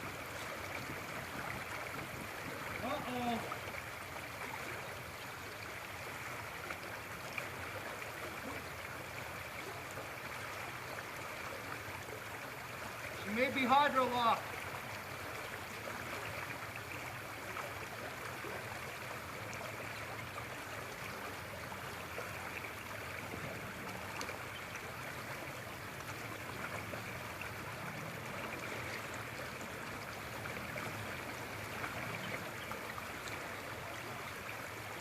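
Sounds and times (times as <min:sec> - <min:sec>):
creek rushing: 0:00.0 - 0:35.0.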